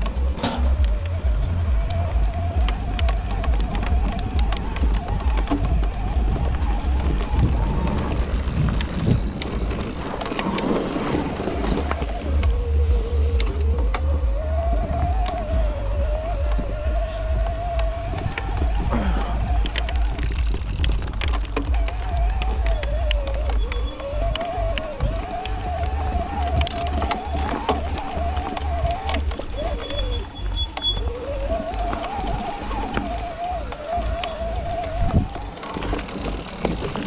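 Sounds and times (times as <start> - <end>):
bike clattering over bumps: 0.0 - 37.0
wind buffeting microphone: 0.0 - 37.0.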